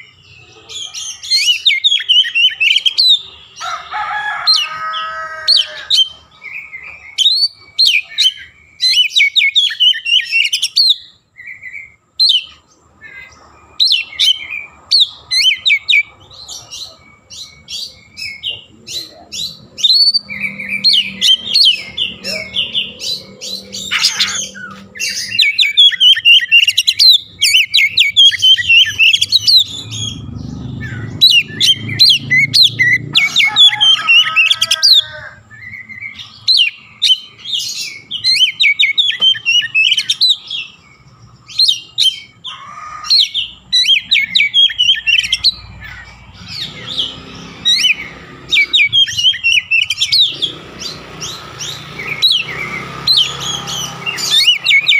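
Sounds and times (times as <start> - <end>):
bird singing chirps and trills: 0.0 - 54.9
harsh mimicked bird calls: 0.0 - 54.9.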